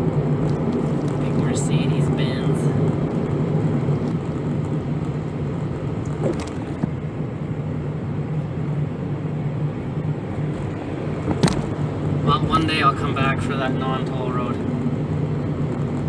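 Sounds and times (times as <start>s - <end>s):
engine drone: 0.0s - 16.0s
tyre and road noise: 0.0s - 16.0s.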